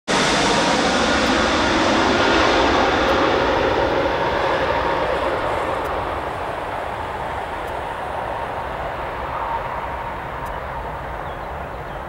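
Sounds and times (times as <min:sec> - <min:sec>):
jet airliner engines passing overhead: 0:00.1 - 0:12.0.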